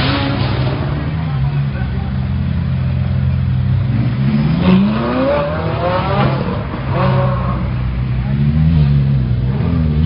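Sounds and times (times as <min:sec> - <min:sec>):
sports car engine revving: 0:00.0 - 0:10.0.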